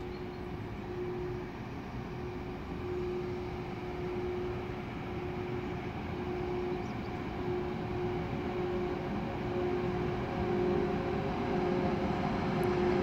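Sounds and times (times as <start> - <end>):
electric locomotive rumble: 0.0 - 13.0.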